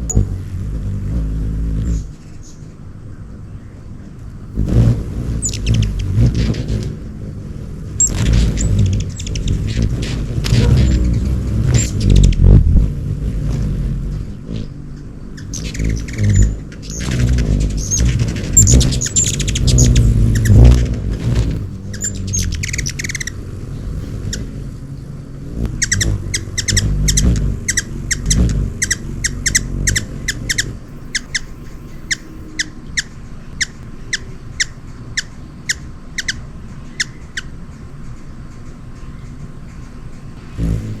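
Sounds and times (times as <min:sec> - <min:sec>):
low rumble: 0:00.0 - 0:34.0
hummingbirds chirping: 0:00.0 - 0:41.0.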